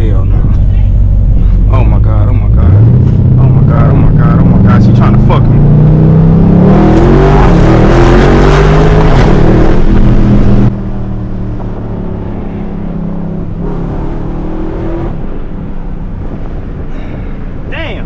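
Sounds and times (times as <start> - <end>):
car engine accelerating: 0.0 - 17.8.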